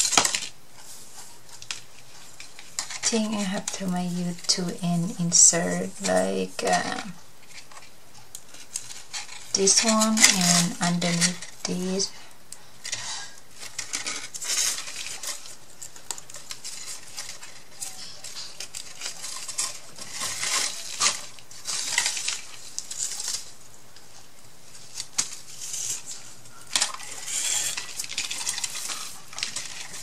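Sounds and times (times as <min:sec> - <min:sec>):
paper rustling: 0:00.0 - 0:30.0.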